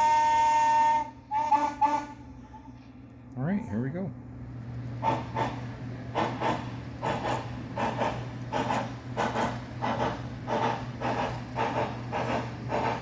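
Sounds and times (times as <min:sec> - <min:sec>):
model steam locomotive chuffs: 0:00.0 - 0:02.8, 0:03.4 - 0:13.0
steady low hum: 0:00.0 - 0:13.0.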